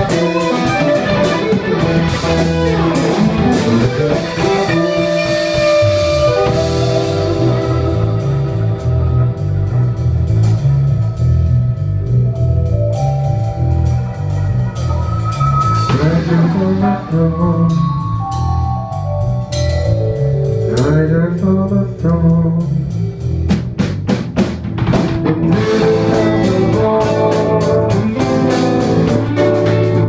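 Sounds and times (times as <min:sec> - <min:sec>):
electric guitar: 0:00.0 - 0:11.6, 0:12.5 - 0:22.8, 0:23.5 - 0:30.0
drum kit with cymbals: 0:00.0 - 0:30.0
keyboard: 0:00.0 - 0:30.0
repeating bass line: 0:00.0 - 0:30.0.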